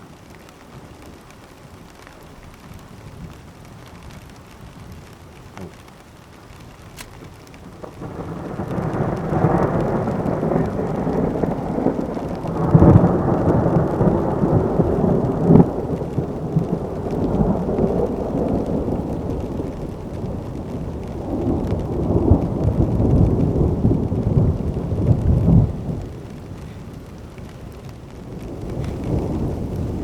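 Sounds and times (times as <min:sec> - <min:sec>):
thunder rumbling: 0:00.0 - 0:30.0.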